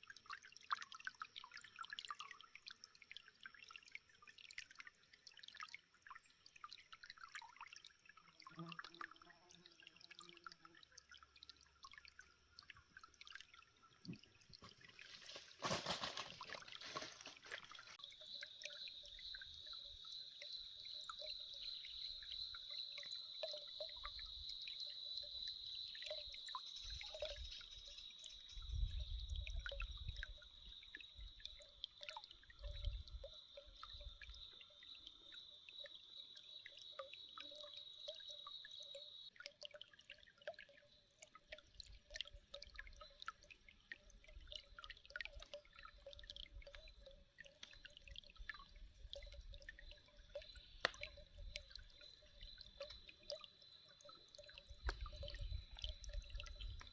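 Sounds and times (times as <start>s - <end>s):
water trickling and dripping: 0.0s - 56.9s.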